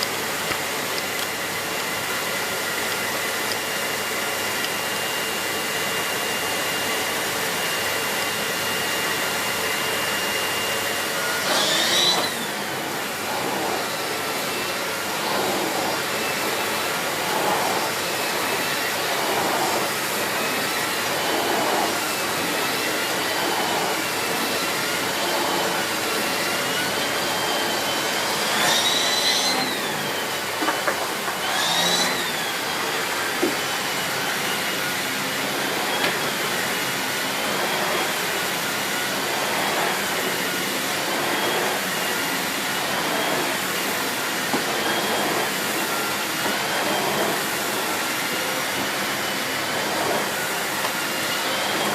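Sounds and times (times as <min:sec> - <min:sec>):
vacuum cleaner motor whine: 0:00.0 - 0:51.9
vacuum swishing back and forth: 0:08.4 - 0:51.9.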